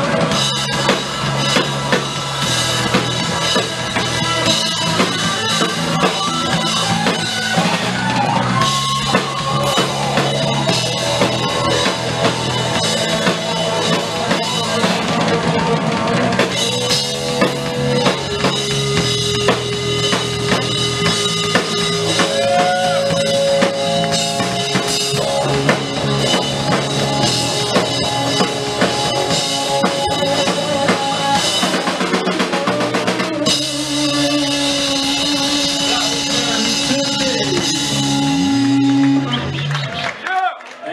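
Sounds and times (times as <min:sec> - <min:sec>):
bass guitar: 0:00.0 - 0:40.2
drums: 0:00.0 - 0:40.4
electric guitar solo: 0:02.4 - 0:40.0.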